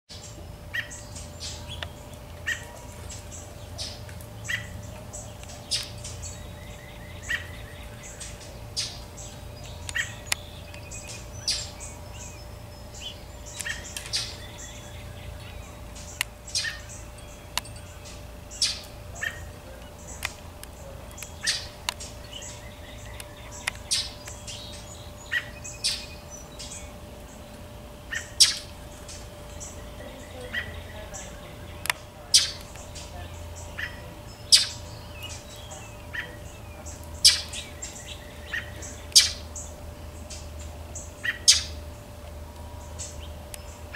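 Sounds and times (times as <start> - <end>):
bird alarm calls: 0.1 - 41.9.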